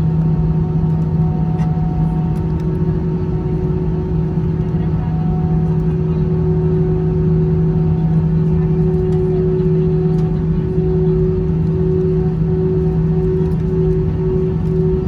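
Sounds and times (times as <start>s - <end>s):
airplane cabin hum: 0.0s - 15.0s.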